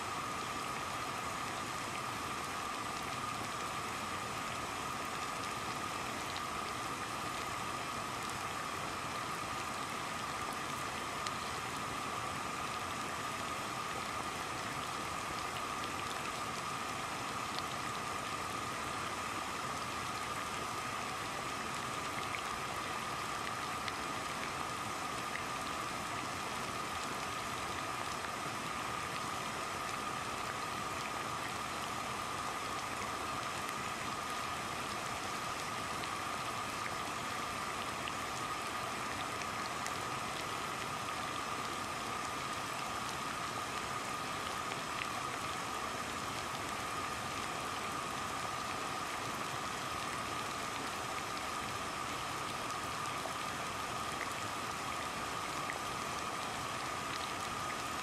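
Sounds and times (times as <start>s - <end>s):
water boiling: 0.0s - 58.0s.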